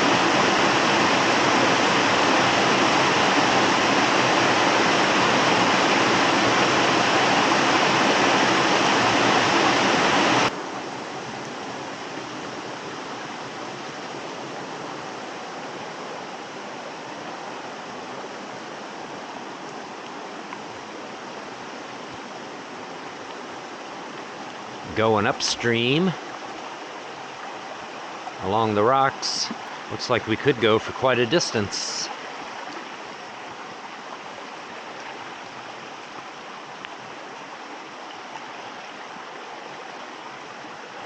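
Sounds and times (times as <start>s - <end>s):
water rushing over rocks: 0.0s - 18.0s, 20.2s - 41.0s.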